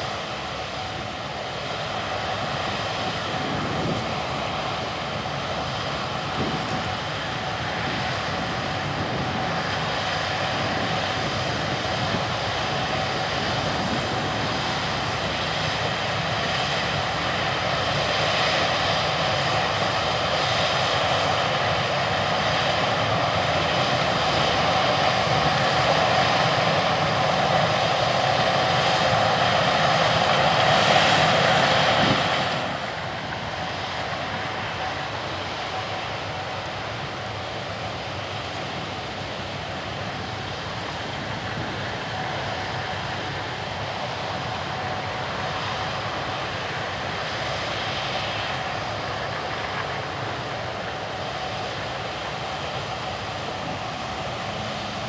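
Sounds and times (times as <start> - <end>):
combine engine and threshing: 0.0 - 55.0
steady machine whine: 0.0 - 55.0.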